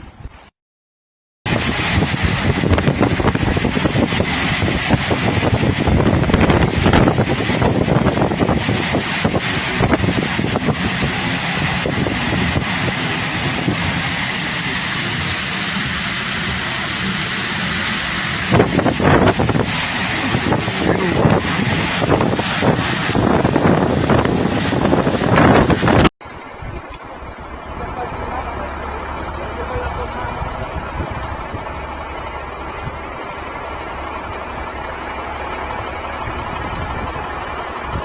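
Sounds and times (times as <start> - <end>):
strong wind buffeting microphone: 1.5 - 38.0.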